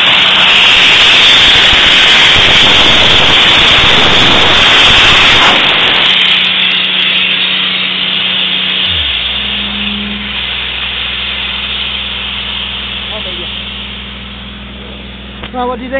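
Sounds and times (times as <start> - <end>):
spray gun hissing: 0.0 - 14.8.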